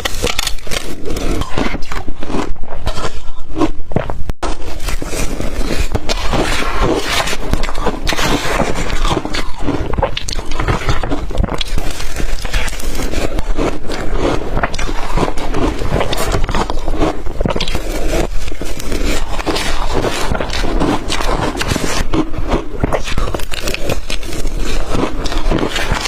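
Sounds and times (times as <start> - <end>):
chewing crushed ice: 0.0 - 26.0.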